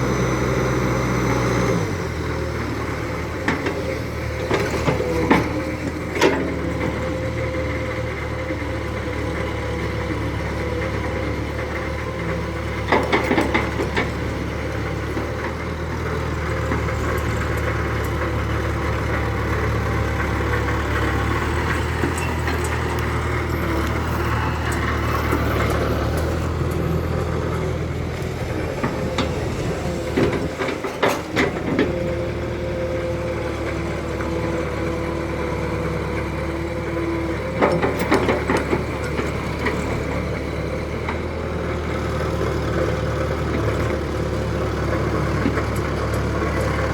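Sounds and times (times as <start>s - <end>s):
engine-like hum: 0.0s - 46.9s
model excavator motor whine: 0.0s - 46.9s.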